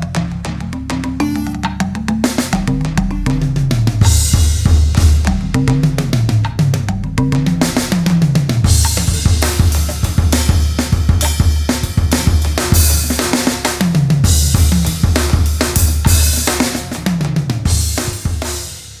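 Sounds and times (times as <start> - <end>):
electronic drum kit groove: 0.0 - 19.0
drum fills ending on cymbal crash: 1.2 - 6.3, 7.6 - 19.0.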